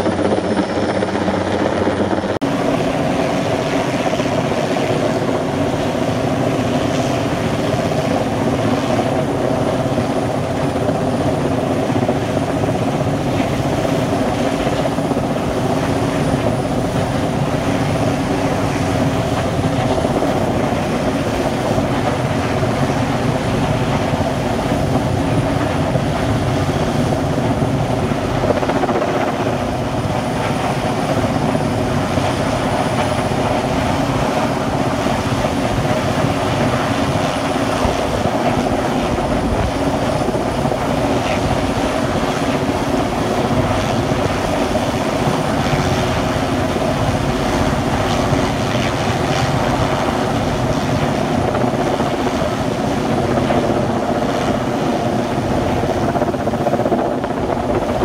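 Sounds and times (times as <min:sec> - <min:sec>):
helicopter hovering: 0:00.0 - 0:58.0.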